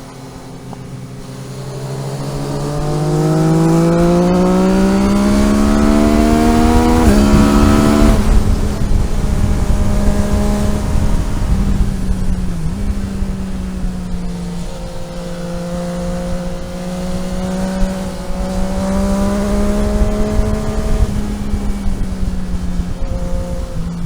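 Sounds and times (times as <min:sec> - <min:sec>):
road and wind noise: 0:00.0 - 0:24.0
vehicle engine accelerating: 0:00.0 - 0:24.0.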